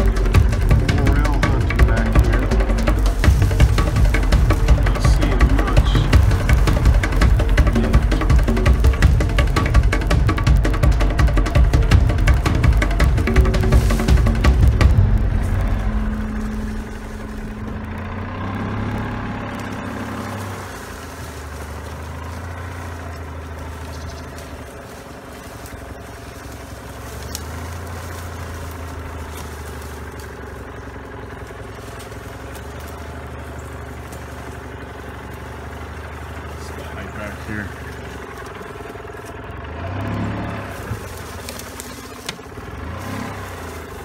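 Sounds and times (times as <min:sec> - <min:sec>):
golf cart engine running: 0:00.0 - 0:44.0.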